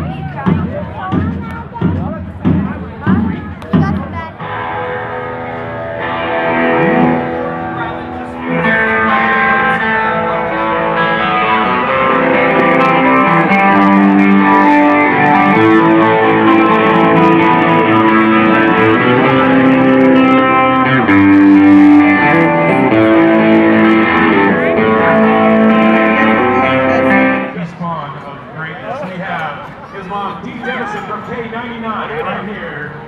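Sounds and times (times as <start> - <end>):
band music with electric guitar: 0.0 - 27.8.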